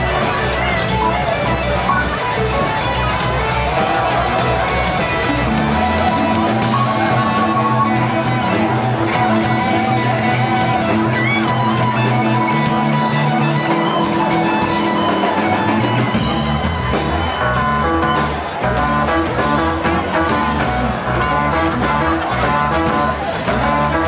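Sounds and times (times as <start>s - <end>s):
deep bass: 0.0s - 24.0s
drum kit: 0.0s - 24.0s
electric guitar: 0.0s - 24.0s
keyboard: 0.0s - 24.0s.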